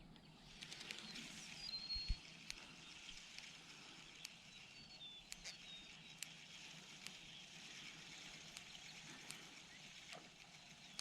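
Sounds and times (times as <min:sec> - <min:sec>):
soft ticks: 0:00.0 - 0:11.0.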